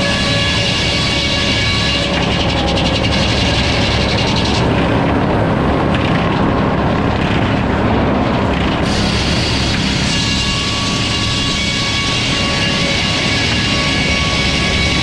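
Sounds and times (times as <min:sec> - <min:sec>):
sawmill machine drone: 0:00.0 - 0:15.0.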